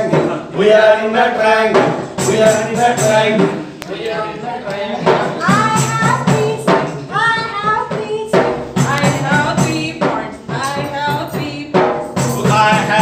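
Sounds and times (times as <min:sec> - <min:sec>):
steady percussion beat: 0:00.0 - 0:13.0.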